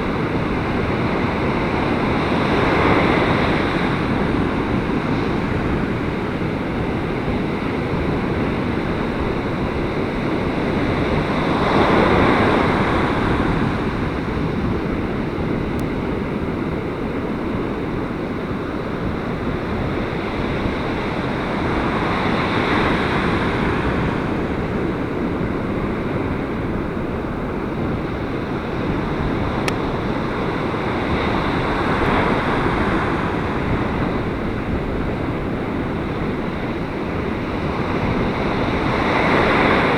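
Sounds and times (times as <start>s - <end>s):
ocean surf breaking: 0.0s - 16.2s, 19.0s - 39.9s
wind buffeting microphone: 0.0s - 39.9s.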